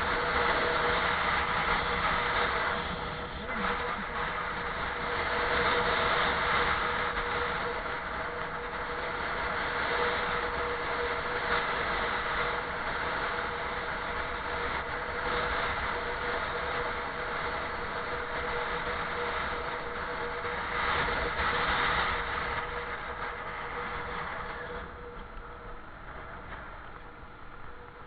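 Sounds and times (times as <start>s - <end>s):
engine hum: 0.0s - 28.0s
wind and road noise: 0.0s - 28.0s.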